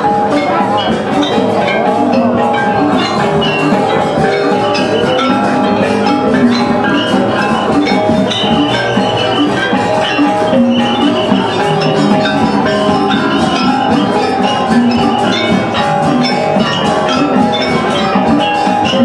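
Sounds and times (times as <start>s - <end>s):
drums: 0.0s - 19.0s
metallophones ringing: 0.0s - 19.0s.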